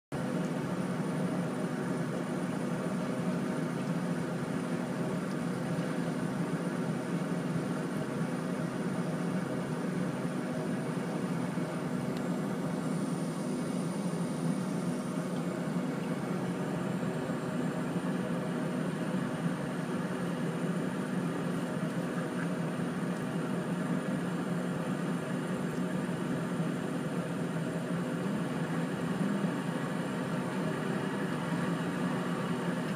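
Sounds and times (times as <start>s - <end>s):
heavy diesel engine running: 0.1s - 32.9s.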